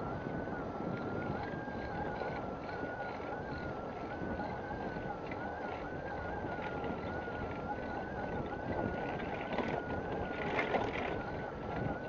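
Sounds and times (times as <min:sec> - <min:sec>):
bicycle tyre rumble on pavement: 0:00.0 - 0:12.0
thin wavering whine: 0:00.0 - 0:12.0
wind buffeting microphone: 0:00.0 - 0:12.0.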